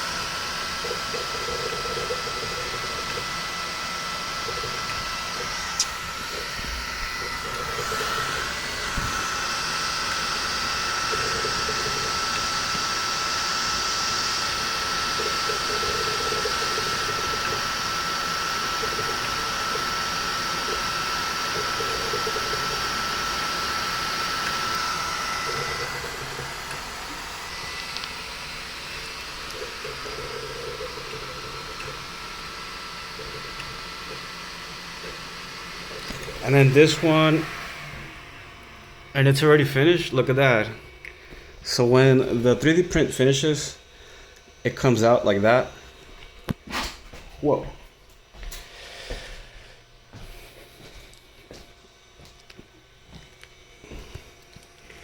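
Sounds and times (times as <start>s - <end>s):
motors warbling tones: 0.0s - 45.8s
cooling fans whirring: 0.0s - 55.0s.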